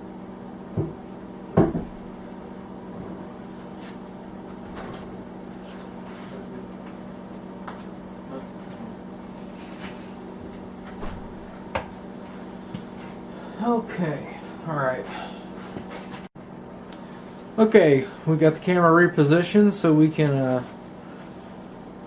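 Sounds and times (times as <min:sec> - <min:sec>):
space heater humming: 0:00.0 - 0:22.0.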